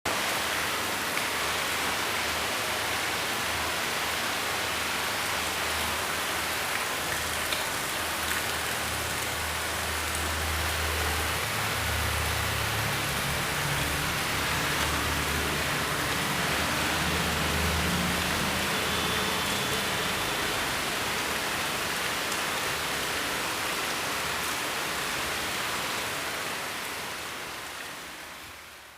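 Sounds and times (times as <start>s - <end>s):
steady rain hiss: 0.1s - 28.9s.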